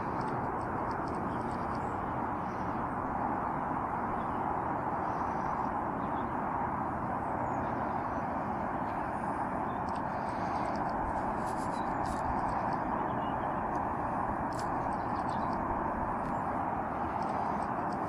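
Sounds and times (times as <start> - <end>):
outdoor background rushing: 0.0 - 18.0.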